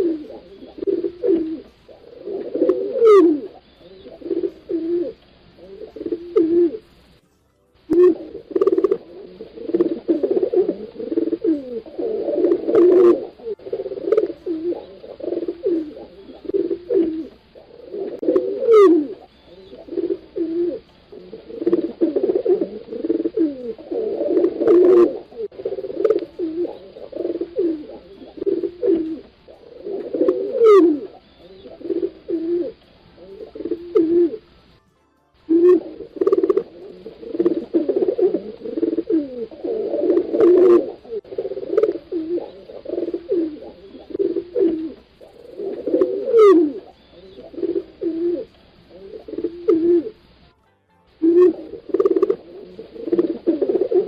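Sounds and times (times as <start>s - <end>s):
pigeons cooing: 0.0s - 7.0s, 7.9s - 34.8s, 35.5s - 50.4s, 51.2s - 54.0s.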